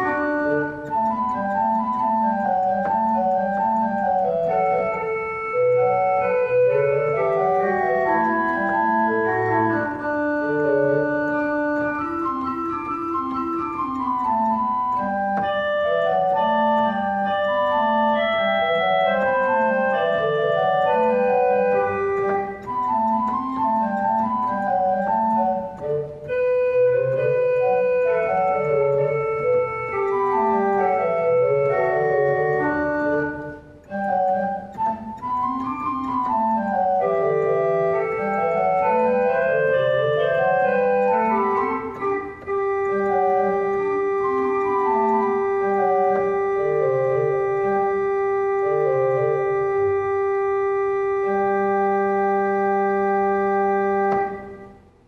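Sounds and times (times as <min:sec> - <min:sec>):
church organ playing: 0:00.0 - 0:55.0.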